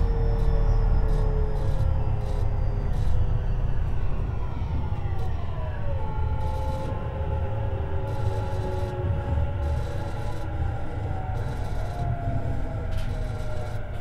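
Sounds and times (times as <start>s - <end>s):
train motor whine: 0.0s - 14.0s
train wheels rumbling on rail: 0.0s - 14.0s.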